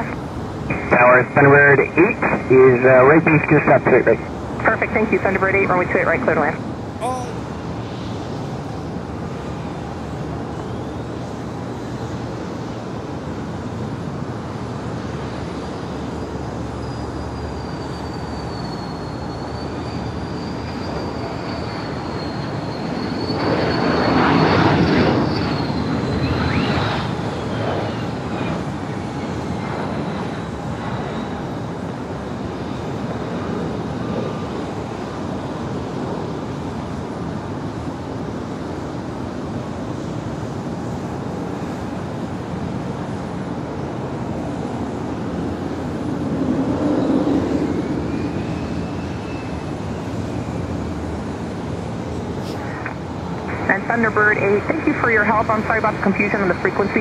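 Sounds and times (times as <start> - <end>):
jet engine whine and rumble: 0.0 - 57.0.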